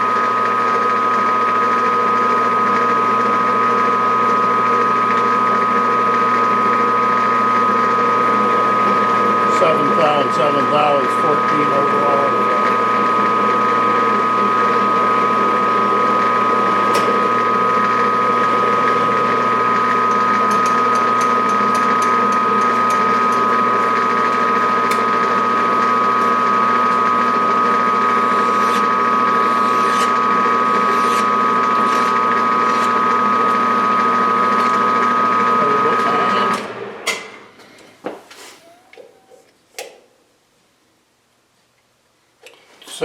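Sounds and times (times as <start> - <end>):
metal lathe gear whine: 0.0 - 37.0.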